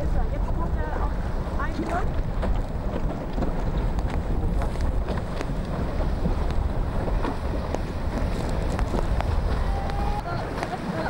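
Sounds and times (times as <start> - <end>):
choppy sea water splashing: 0.0 - 11.0
wind buffeting microphone: 0.0 - 11.0.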